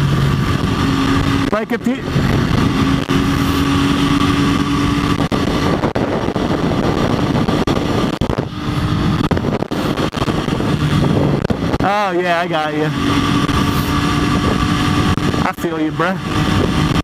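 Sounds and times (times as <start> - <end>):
motorcycle engine running: 0.0 - 17.0
wind rush on microphone: 0.0 - 17.0.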